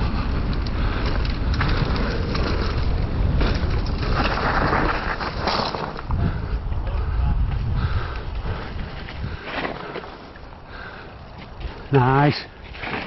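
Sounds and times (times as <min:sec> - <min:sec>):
wind buffeting microphone: 0:00.0 - 0:12.0
tyres rolling on dirt trail: 0:00.0 - 0:13.0.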